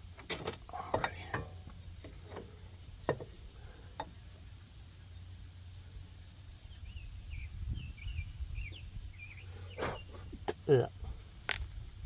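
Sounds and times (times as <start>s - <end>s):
steady low rumble: 0.0s - 12.0s
small bird chirping: 1.1s - 10.8s.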